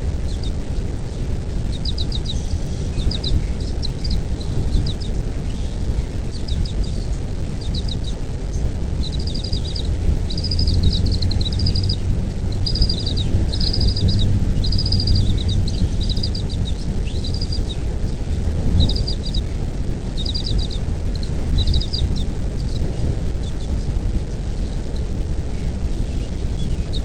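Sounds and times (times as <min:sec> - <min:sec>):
eagle chittering: 0:00.0 - 0:27.0
low rumble: 0:00.0 - 0:27.0.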